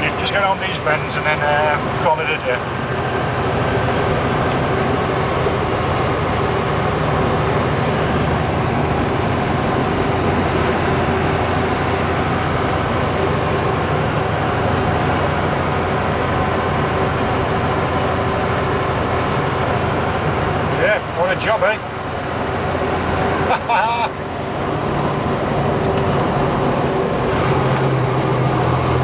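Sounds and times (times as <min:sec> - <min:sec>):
truck diesel engine droning: 0:00.0 - 0:29.0.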